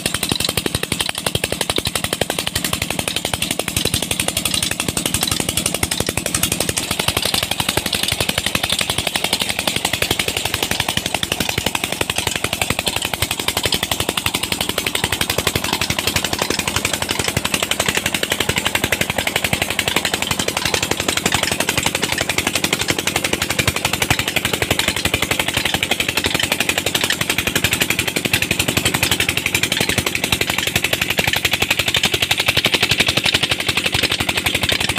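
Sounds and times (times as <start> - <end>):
diesel engine knocking: 0.0 - 34.9
water gushing into tank: 0.0 - 34.9.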